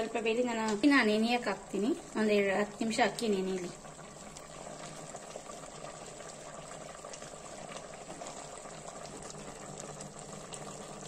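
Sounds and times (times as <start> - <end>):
chicken simmering bubbling: 0.0 - 11.0.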